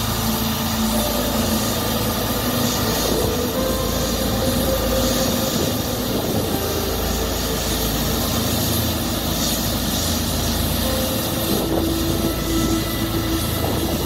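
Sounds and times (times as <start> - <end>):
combine harvester running: 0.0 - 14.0
faint steady tones: 0.0 - 14.0.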